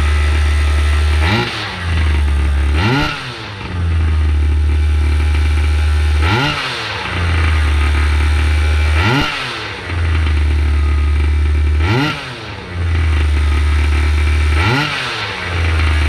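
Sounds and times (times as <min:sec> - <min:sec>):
two-stroke engine idling and revving: 0:00.0 - 0:16.0.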